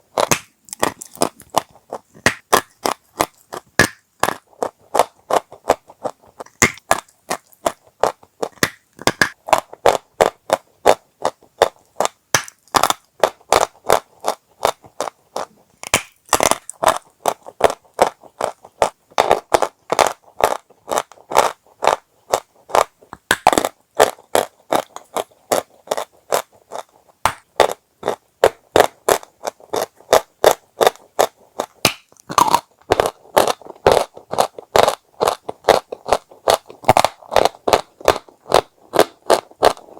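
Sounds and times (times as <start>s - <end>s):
chewing crunchy chalk: 0.1s - 39.9s.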